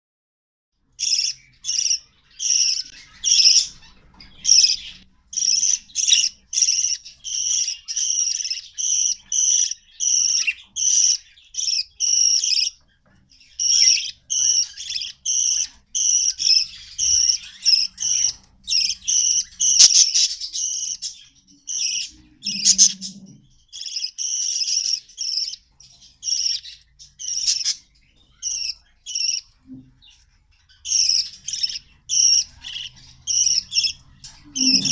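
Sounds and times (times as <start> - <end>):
budgerigars chirping: 0.9 - 34.9.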